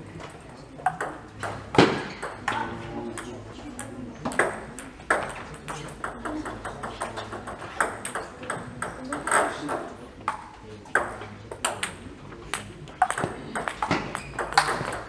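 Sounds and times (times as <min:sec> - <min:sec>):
table tennis ball clicking: 0:00.8 - 0:02.6, 0:03.2 - 0:15.0.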